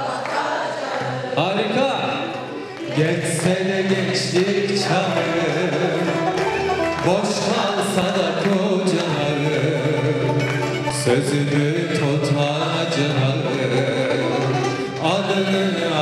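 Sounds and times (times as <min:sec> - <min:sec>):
man singing into microphone: 0:01.3 - 0:16.0
light percussion: 0:02.0 - 0:16.0
instrumental ensemble: 0:02.1 - 0:16.0.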